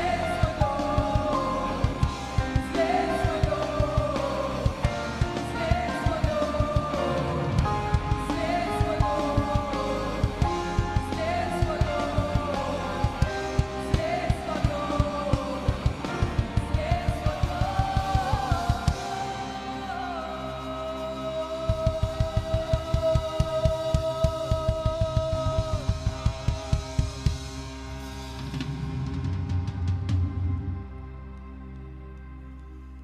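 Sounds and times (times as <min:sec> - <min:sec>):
worship band playing: 0:00.0 - 0:32.9.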